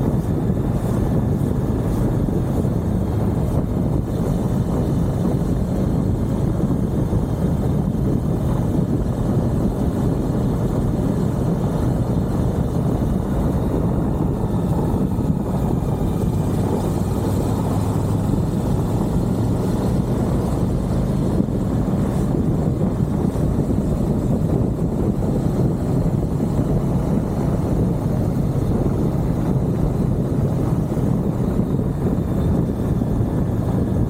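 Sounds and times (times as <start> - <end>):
motorcycle engine running: 0.0 - 34.0
noisy rush: 0.0 - 34.0.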